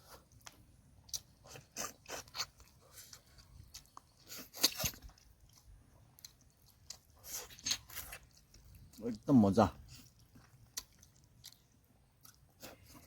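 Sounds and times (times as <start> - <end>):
person chewing and crunching food: 0.0 - 13.0.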